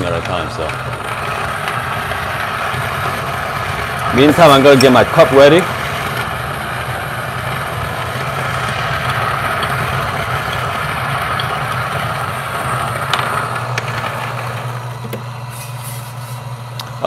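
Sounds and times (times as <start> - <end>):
coffee grinder whirring: 0.0 - 17.0.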